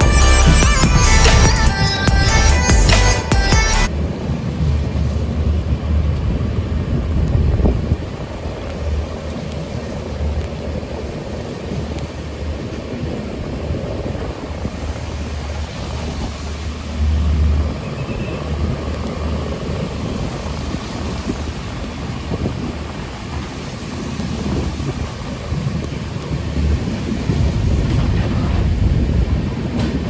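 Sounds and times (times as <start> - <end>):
train rumbling on track: 0.0 - 30.0.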